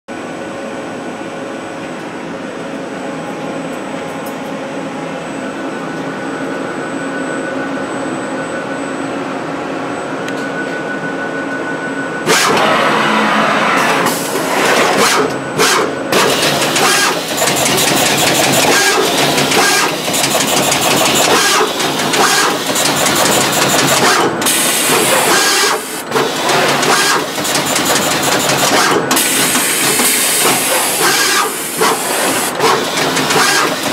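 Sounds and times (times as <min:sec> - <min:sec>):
machine hum: 0:00.1 - 0:33.9.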